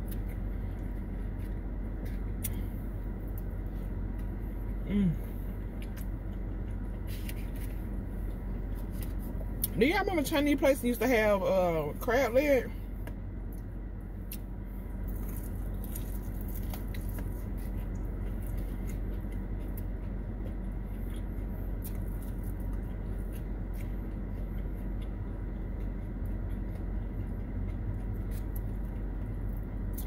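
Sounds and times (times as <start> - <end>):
person chewing food: 0.0 - 9.8, 13.4 - 30.0
steady low hum: 0.0 - 30.0.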